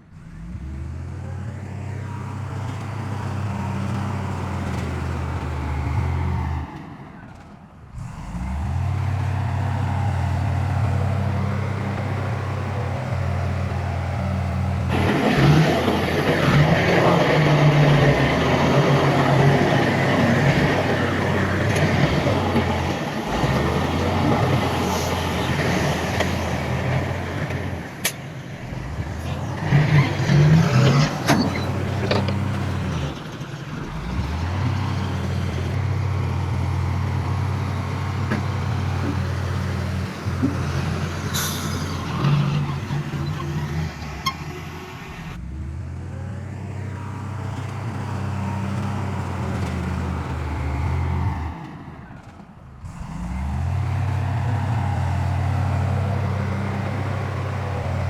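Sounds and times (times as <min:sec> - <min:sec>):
heavy diesel engine running: 0:00.0 - 0:58.0
rough noisy sound: 0:00.0 - 0:58.0.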